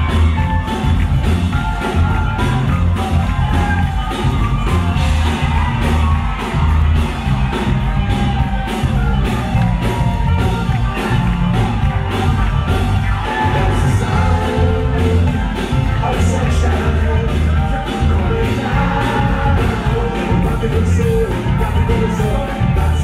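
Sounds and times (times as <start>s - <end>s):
crowd shouting: 0.0s - 20.6s
live band music: 0.0s - 23.0s.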